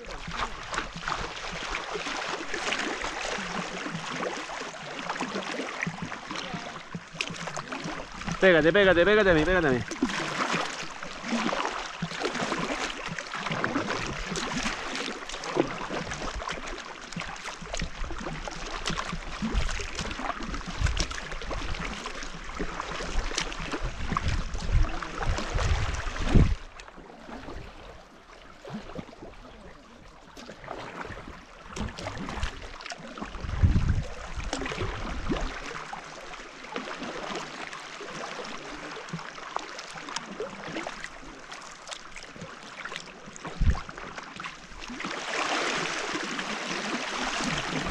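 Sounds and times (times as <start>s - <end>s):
paddle splashing in water: 0.0s - 47.9s
water lapping at hull: 0.0s - 47.9s.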